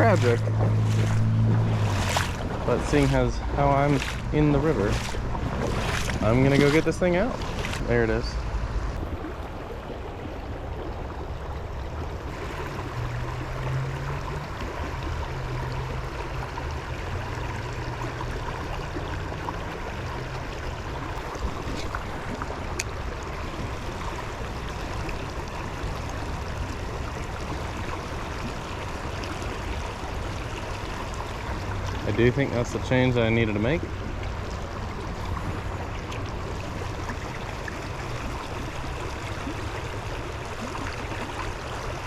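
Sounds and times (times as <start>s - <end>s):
river water running over rocks: 0.0s - 42.0s.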